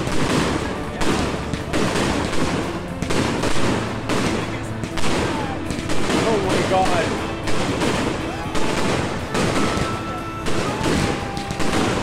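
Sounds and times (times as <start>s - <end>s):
firework salute bangs: 0.0s - 12.0s.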